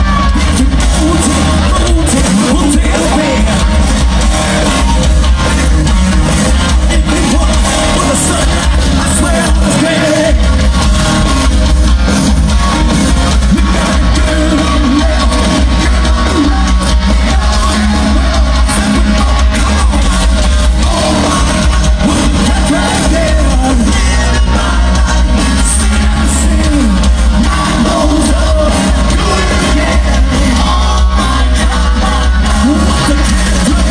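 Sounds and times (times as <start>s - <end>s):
person singing: 0.0s - 5.0s, 6.2s - 11.3s, 13.3s - 33.9s
heavy bass: 0.0s - 33.9s
live hard rock band: 0.0s - 33.9s.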